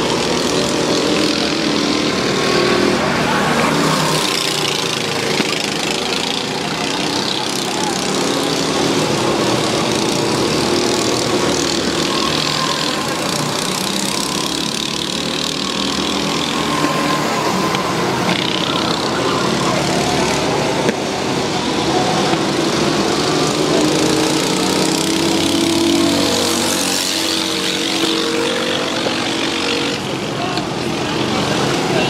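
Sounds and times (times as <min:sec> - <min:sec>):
go-kart engines running: 0:00.0 - 0:32.0.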